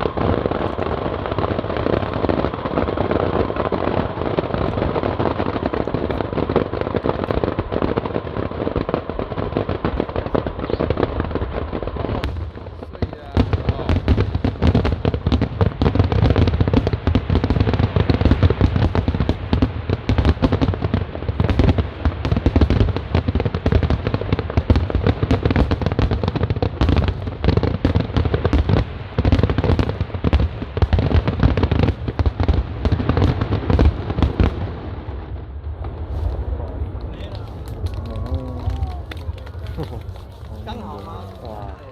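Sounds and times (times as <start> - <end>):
fireworks bursts and crackling: 0.0 - 41.9.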